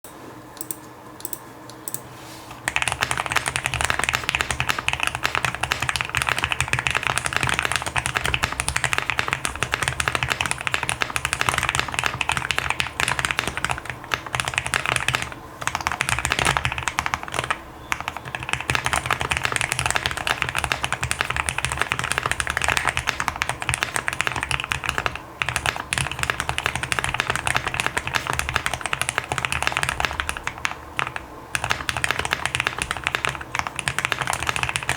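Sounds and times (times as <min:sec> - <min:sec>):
mechanical keyboard typing: 0:02.6 - 0:34.9.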